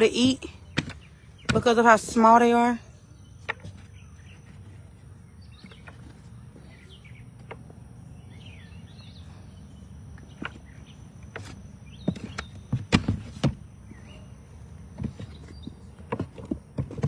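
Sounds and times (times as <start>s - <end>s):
faint bird chirps: 0.0s - 12.7s, 13.7s - 16.0s
low steady hum: 0.0s - 17.0s.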